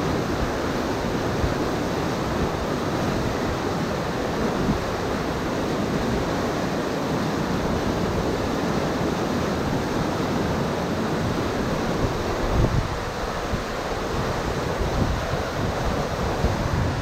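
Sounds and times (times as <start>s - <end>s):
rapids roaring: 0.0s - 17.0s.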